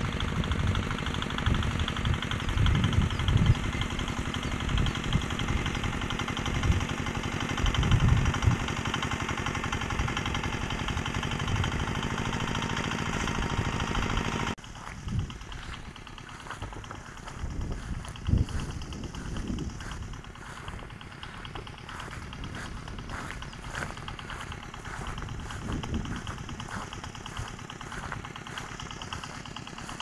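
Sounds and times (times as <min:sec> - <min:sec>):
small tractor engine running: 0:00.0 - 0:30.0.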